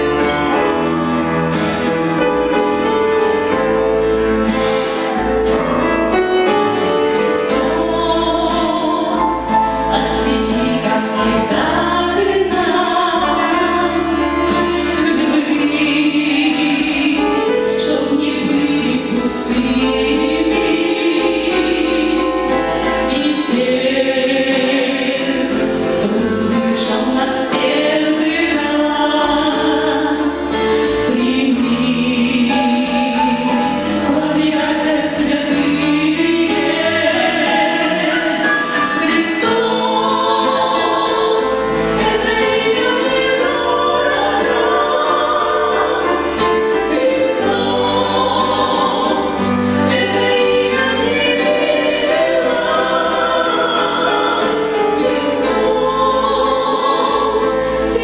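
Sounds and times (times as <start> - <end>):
women's vocal trio singing: 7.0 - 58.0.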